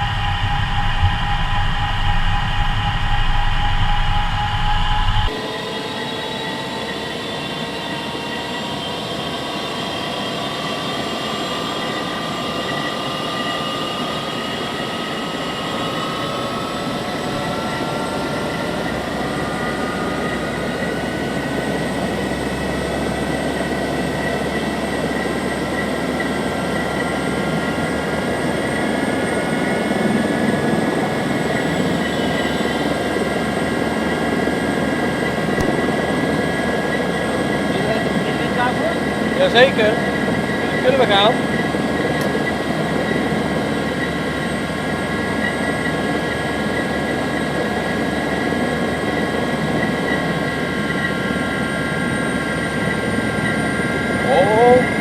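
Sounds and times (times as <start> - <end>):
helicopter engine and rotor running: 0.0 - 55.0
whining tones rising in pitch: 0.0 - 55.0.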